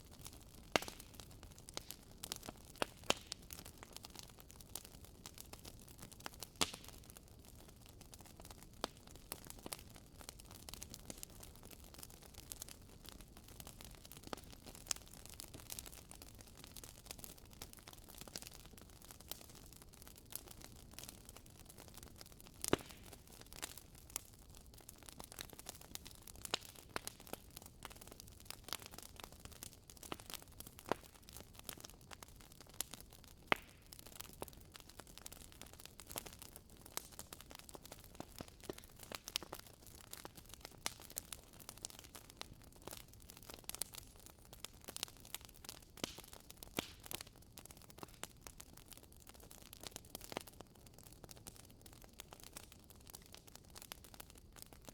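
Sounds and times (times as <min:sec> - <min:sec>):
bonfire crackling: 0:00.0 - 0:54.9.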